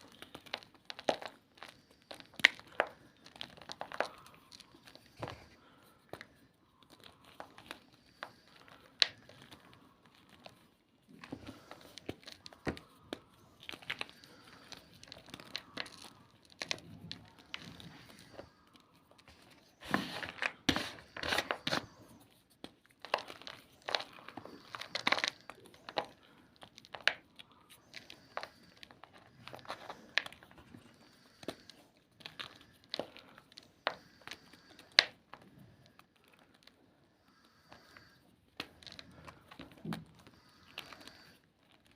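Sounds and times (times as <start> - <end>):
chalk crunching by hand: 0.0 - 35.0.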